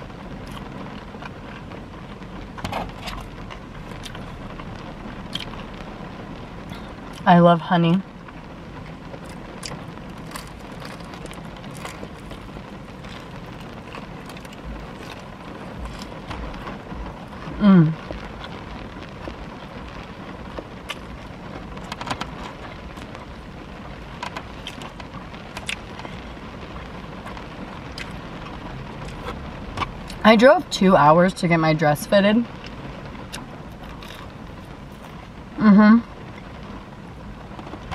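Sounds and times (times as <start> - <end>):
rain on car roof from inside: 0.0 - 37.9.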